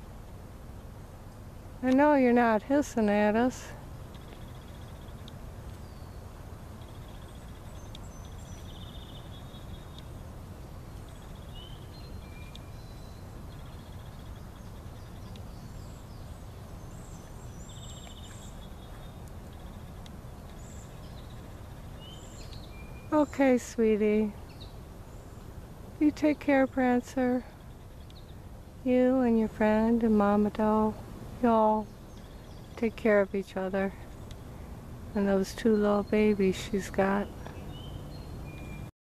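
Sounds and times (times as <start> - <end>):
birds chirping and trilling: 1.3 - 38.9.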